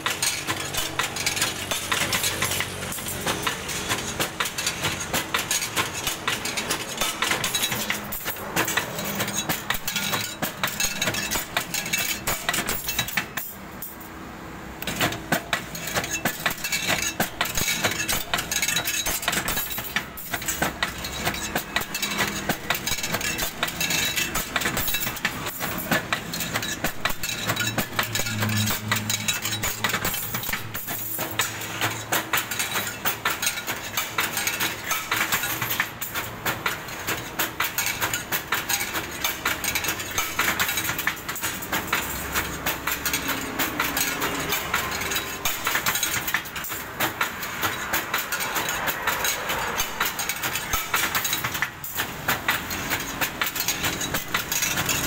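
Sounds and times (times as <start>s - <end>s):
metal rod rattling through machine: 0.0s - 14.1s, 14.8s - 55.0s.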